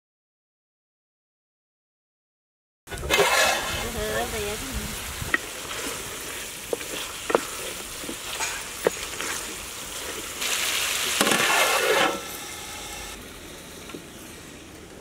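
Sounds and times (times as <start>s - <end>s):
curry simmering and sizzling: 2.9s - 15.0s.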